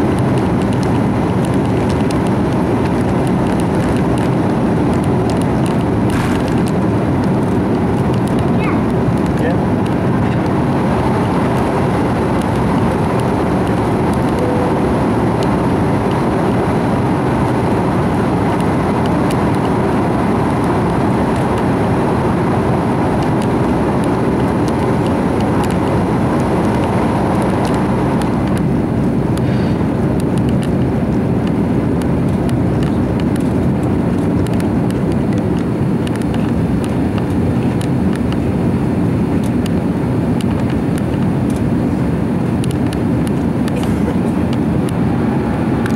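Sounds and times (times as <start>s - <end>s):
airplane cabin engine roar: 0.0s - 45.9s.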